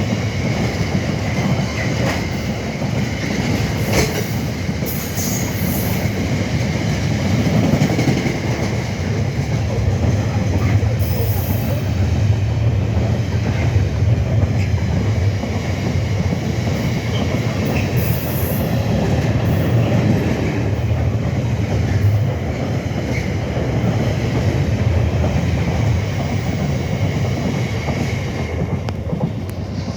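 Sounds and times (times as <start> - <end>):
freight train wheels rumbling: 0.0 - 29.9.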